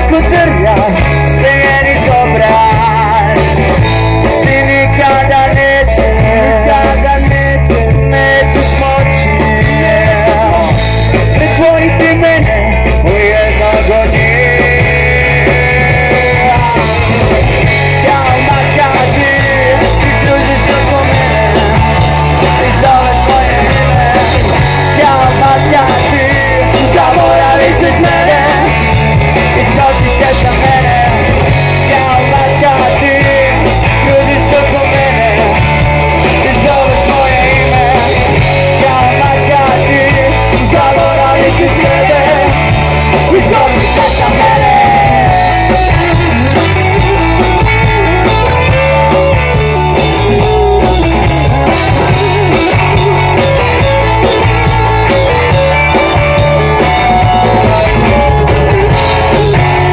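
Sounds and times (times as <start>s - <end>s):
drums: 0.0s - 59.9s
electric guitars: 0.0s - 59.9s
man singing: 0.0s - 59.9s.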